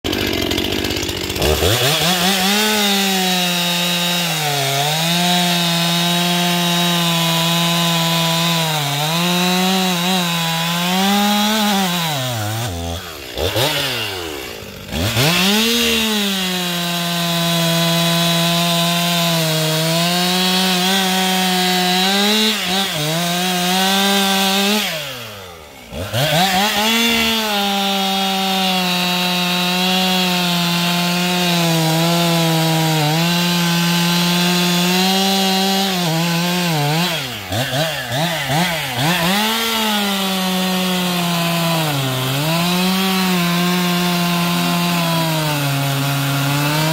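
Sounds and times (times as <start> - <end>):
chainsaw cutting logs: 0.0 - 46.9.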